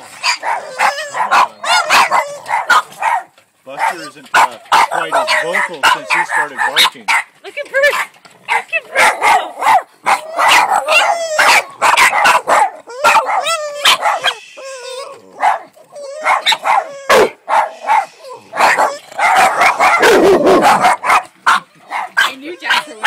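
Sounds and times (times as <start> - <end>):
dogs barking and yipping: 0.0 - 23.0
dog whining: 0.2 - 2.9, 3.9 - 6.6, 8.8 - 23.0.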